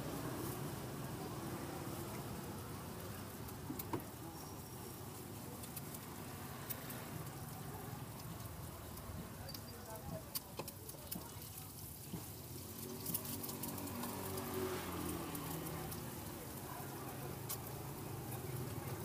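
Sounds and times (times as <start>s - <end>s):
egg sizzling in hot oil: 0.0s - 19.0s
oil popping: 0.0s - 19.0s.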